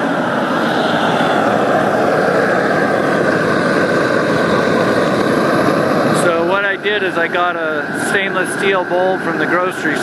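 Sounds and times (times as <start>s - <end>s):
torch flame roaring: 0.0s - 10.0s.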